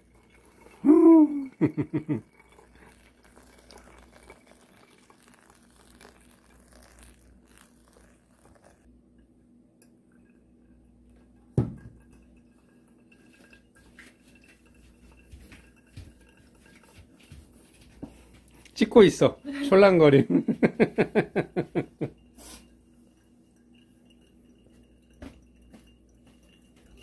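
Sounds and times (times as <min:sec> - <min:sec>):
coffee trickling into glass: 0:00.0 - 0:27.0.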